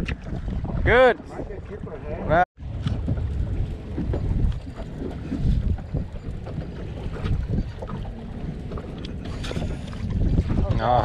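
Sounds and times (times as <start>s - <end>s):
water washing along boat: 0.0s - 11.0s
wind buffeting microphone: 0.0s - 11.0s.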